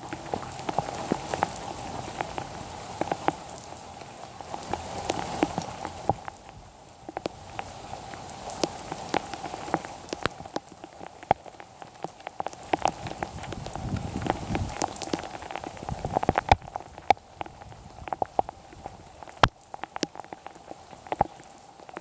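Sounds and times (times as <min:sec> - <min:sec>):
heavy rain hiss: 0:00.0 - 0:22.0
raindrops tapping close by: 0:00.0 - 0:22.0.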